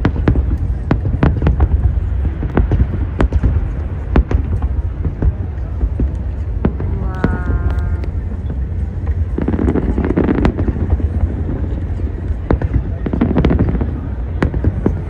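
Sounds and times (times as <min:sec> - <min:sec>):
fireworks bangs and crackles: 0:00.0 - 0:15.0
low rumble of booms: 0:00.0 - 0:15.0
wind on microphone: 0:00.0 - 0:15.0.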